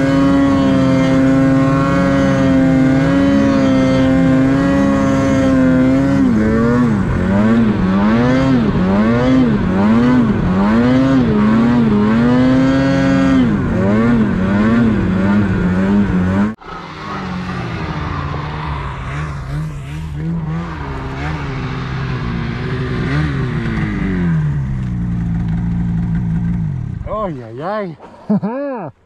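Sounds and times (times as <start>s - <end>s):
snowmobile engine revving: 0.0s - 28.9s.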